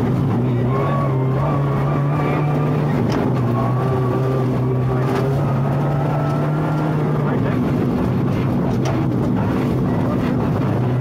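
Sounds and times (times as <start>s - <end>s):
low road rumble: 0.0s - 11.0s
rally car engine running hard: 0.0s - 11.0s.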